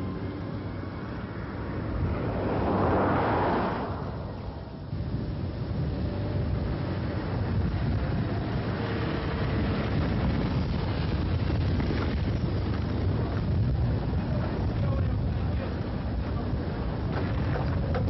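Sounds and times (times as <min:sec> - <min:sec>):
car driving toward microphone: 0:00.0 - 0:18.0
wind rumble on microphone: 0:00.0 - 0:18.0.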